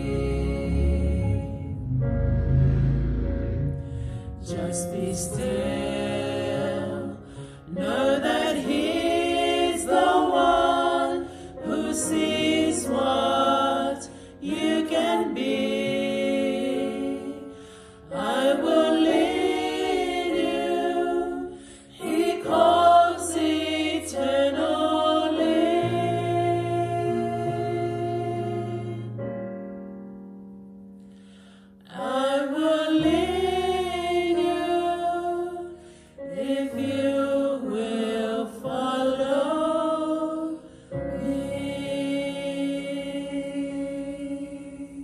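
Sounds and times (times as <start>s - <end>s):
women singing together: 0.0s - 1.6s, 4.4s - 29.2s, 31.9s - 45.0s.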